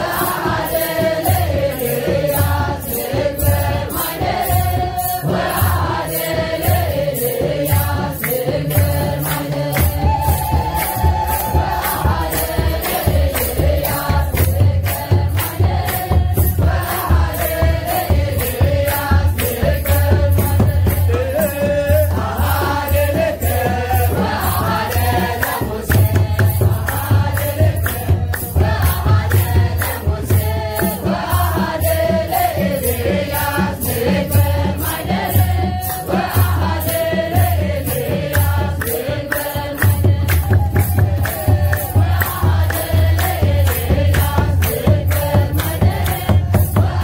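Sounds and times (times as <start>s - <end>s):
group of young voices singing hymn: 0.0s - 47.0s
hand drum beating: 0.0s - 47.0s
shaking rattle: 0.0s - 47.0s.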